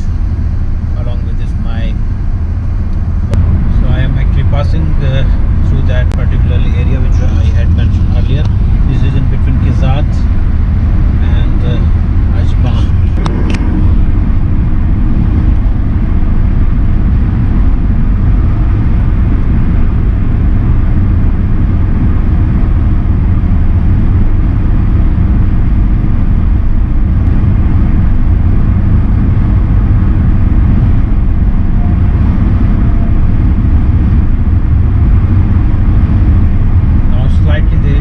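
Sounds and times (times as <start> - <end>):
car road and tyre noise: 0.0 - 38.0.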